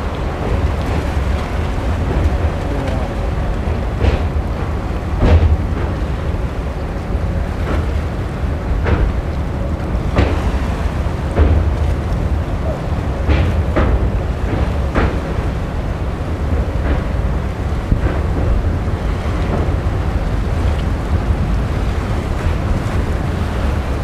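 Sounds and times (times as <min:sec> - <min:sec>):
train wheels rumbling on track: 0:00.0 - 0:24.0
wheels clacking over rail joints: 0:00.0 - 0:24.0
wind on microphone: 0:00.0 - 0:24.0.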